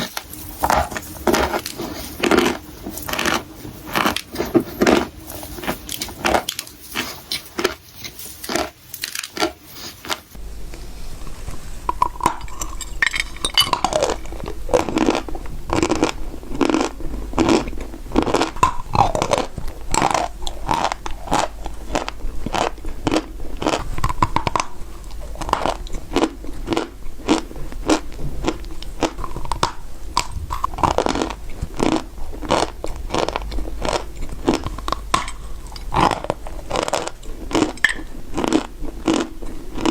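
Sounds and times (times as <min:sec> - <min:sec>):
person crunching dry clay: 0:00.0 - 0:39.9.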